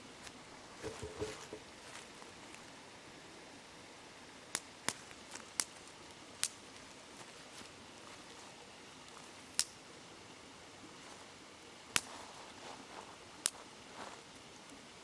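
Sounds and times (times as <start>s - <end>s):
campfire crackling: 0.1s - 2.9s, 4.4s - 14.9s.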